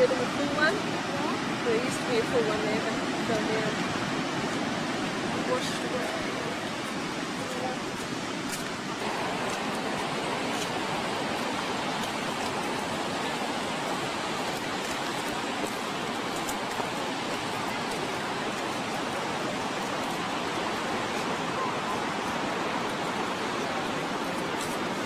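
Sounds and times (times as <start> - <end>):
surf breaking on shore: 0.0 - 25.0.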